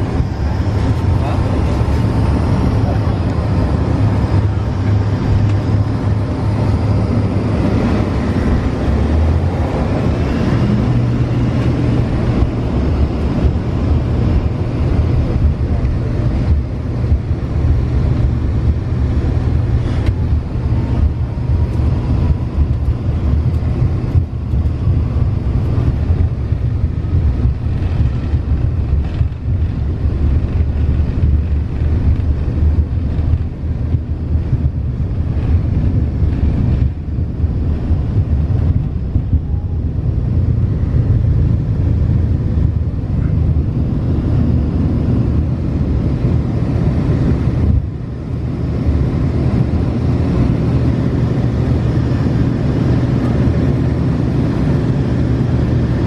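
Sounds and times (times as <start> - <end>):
jet engines whining: 0.0 - 56.0
low rumble of rolling aircraft: 0.0 - 56.0.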